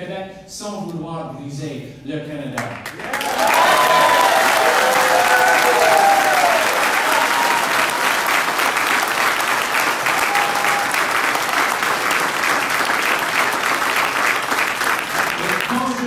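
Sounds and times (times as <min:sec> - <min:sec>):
crowd applauding: 0:02.8 - 0:16.0.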